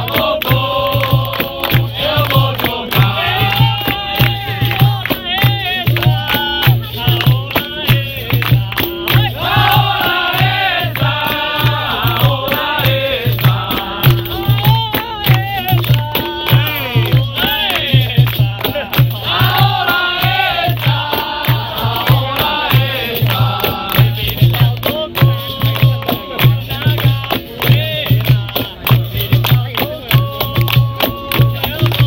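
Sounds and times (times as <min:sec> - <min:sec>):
rattling percussion strikes: 0:00.0 - 0:32.0
steady drum beat: 0:00.0 - 0:32.0
voices singing: 0:00.0 - 0:32.0.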